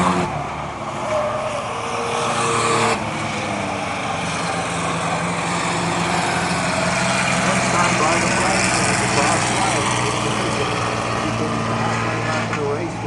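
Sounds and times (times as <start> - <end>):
race truck engines: 0.0 - 13.0.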